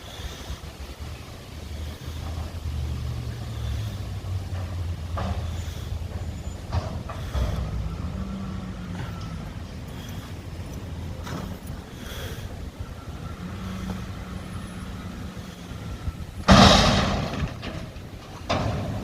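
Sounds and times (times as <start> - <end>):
garbage truck diesel engine: 0.0 - 19.0.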